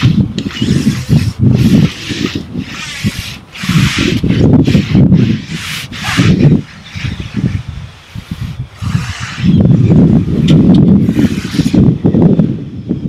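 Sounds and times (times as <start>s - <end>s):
brush scrubbing wet deck: 0.0s - 12.0s.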